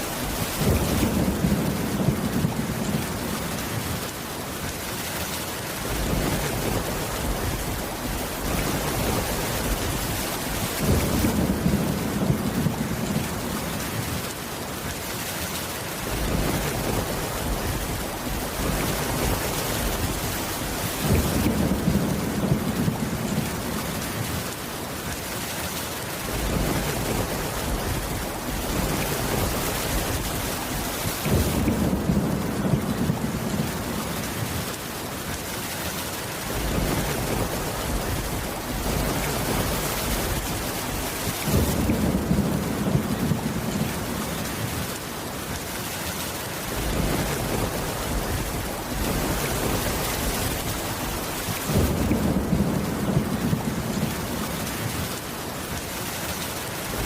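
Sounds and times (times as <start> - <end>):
thunder rumbling: 0.0 - 4.1, 5.8 - 14.4, 16.0 - 24.6, 26.2 - 34.9, 36.4 - 45.1, 46.6 - 55.3
heavy rain falling: 0.0 - 57.0.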